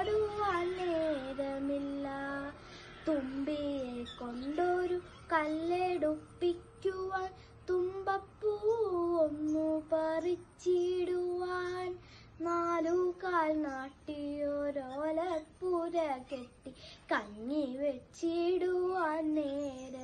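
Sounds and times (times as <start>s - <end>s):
girl singing unaccompanied: 0.0s - 20.0s.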